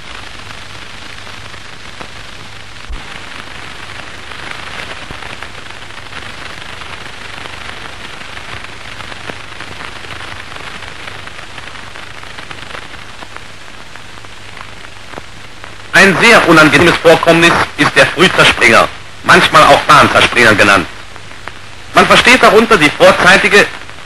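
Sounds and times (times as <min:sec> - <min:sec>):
film soundtrack hiss and crackle: 0:00.0 - 0:24.0.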